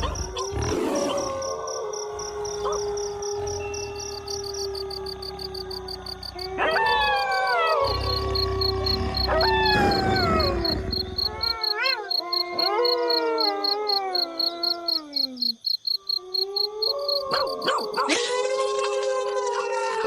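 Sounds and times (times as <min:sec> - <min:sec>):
wolves yipping: 0:00.0 - 0:01.6, 0:02.2 - 0:15.2, 0:16.8 - 0:18.3
wolves howling: 0:00.0 - 0:15.6, 0:16.2 - 0:20.0
crickets chirping: 0:00.0 - 0:18.3.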